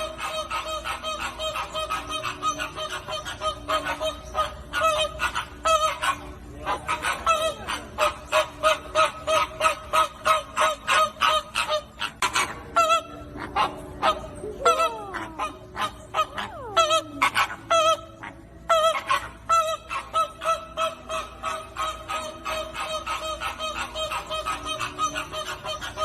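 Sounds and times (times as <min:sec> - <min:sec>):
flamingos honking: 0:00.0 - 0:26.0.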